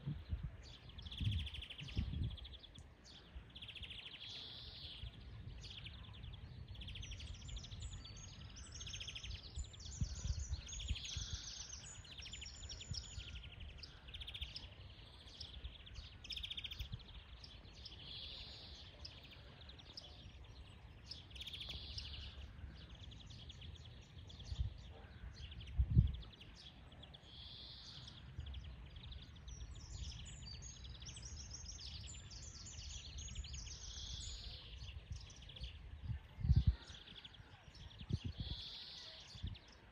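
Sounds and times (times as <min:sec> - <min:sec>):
finch singing trills: 0:00.2 - 0:39.9.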